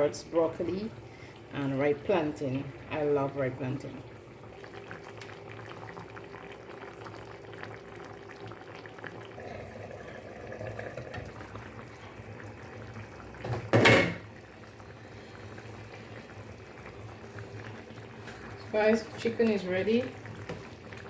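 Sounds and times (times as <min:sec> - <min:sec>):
sauce bubbling at a simmer: 0:00.6 - 0:21.0
fine popping crackles: 0:01.6 - 0:21.0.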